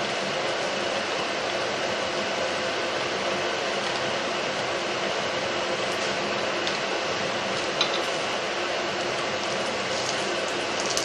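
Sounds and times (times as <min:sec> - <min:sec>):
food sizzling in pan: 0:00.0 - 0:11.0.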